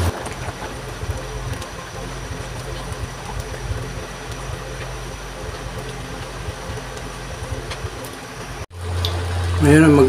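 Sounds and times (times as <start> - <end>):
stew simmering in a wok: 0.0 - 9.6
gas burner low rumble: 0.0 - 10.0.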